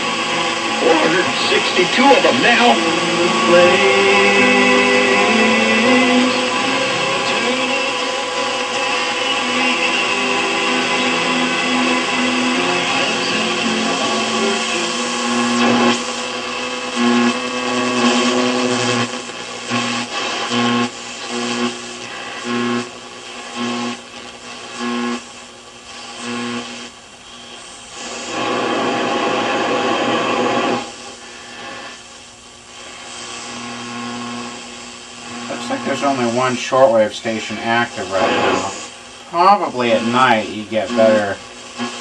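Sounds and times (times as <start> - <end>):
pulsing low radio tone: 0.0 - 32.1, 32.8 - 37.0, 37.9 - 39.2
radio static and hiss: 0.0 - 42.0.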